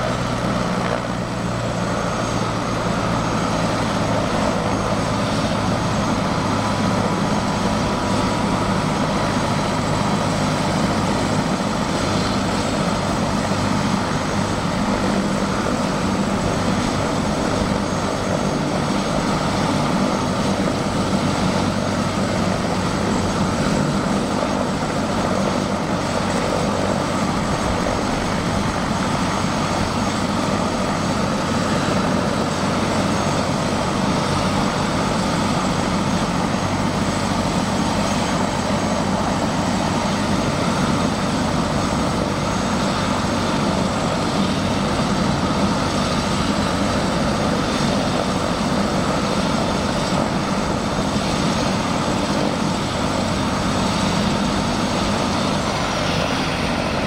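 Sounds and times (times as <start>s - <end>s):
helicopter idling on the ground: 0.0s - 57.0s.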